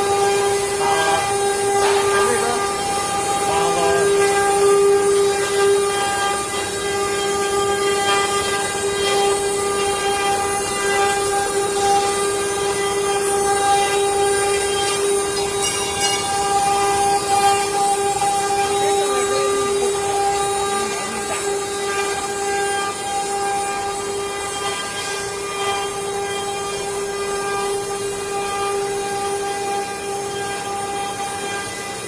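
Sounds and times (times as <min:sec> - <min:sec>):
router spindle whine: 0:00.0 - 0:32.0.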